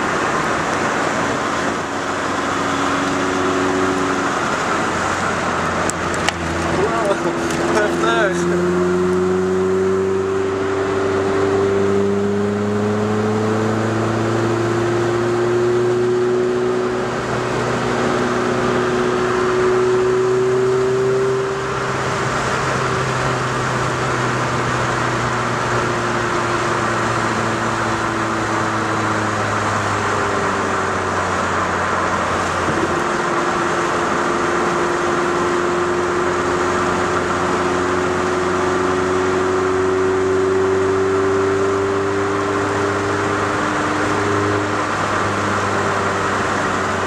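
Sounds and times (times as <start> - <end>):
car engine cruising: 0.0 - 47.0
tyre and road noise: 0.0 - 47.0.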